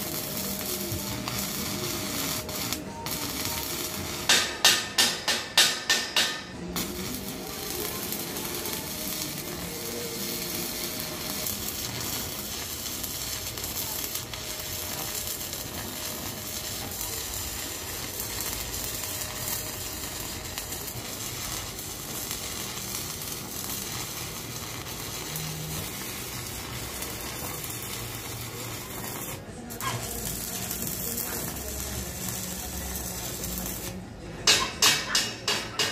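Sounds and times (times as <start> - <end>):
welding arc crackling: 0.0 - 35.9.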